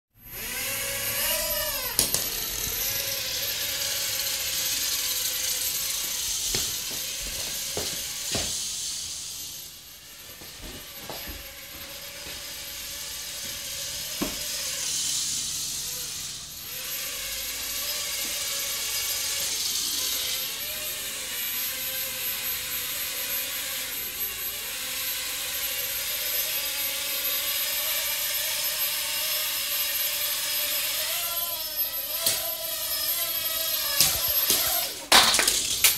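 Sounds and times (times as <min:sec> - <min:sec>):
quadcopter propellers buzzing: 0:00.2 - 0:35.9.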